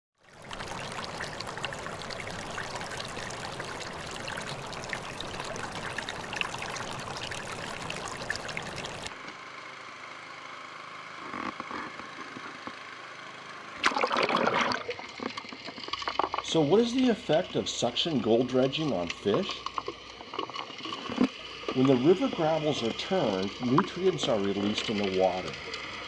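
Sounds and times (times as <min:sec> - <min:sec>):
river water flowing: 0:00.2 - 0:09.2, 0:13.8 - 0:26.0.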